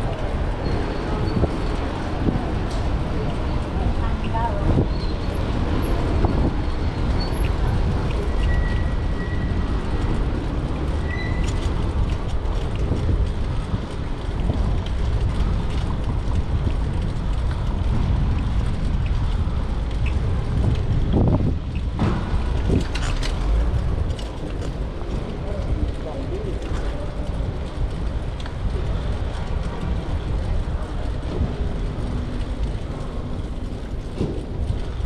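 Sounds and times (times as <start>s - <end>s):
street traffic noise: 0.0s - 35.0s
wind buffeting microphone: 0.0s - 35.0s.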